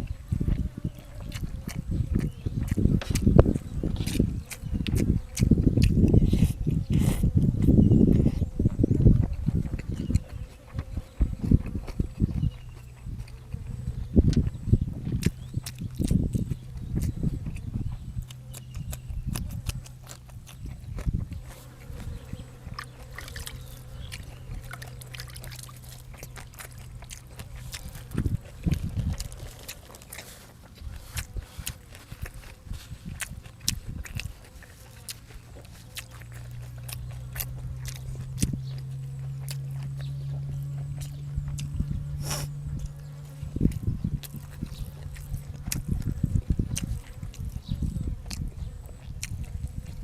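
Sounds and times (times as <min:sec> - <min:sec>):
person chewing and smacking: 0:00.0 - 0:50.0
steady low hum: 0:00.0 - 0:50.0.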